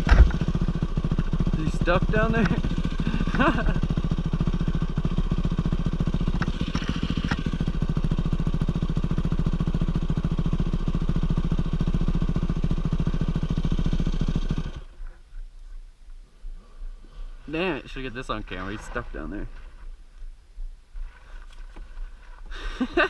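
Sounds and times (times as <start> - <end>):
dirt bike engine idling: 0.0 - 23.0.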